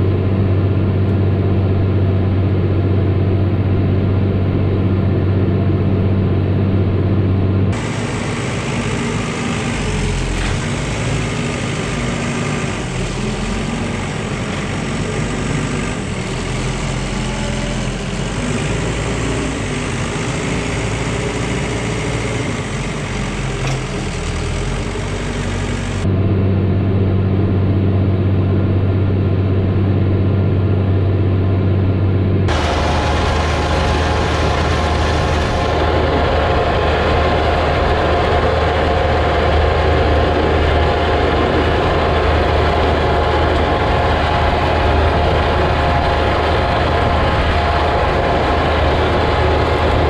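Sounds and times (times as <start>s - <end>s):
tractor engine running: 0.0s - 26.1s, 32.5s - 50.0s.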